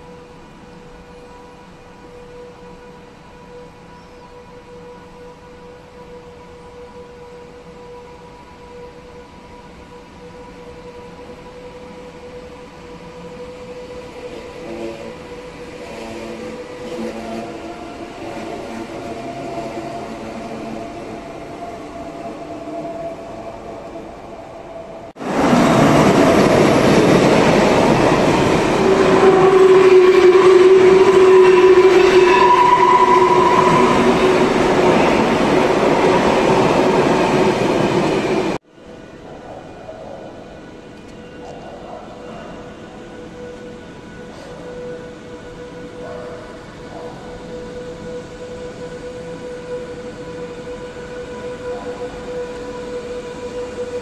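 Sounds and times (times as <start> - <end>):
freight train rumbling past: 7.6 - 54.0.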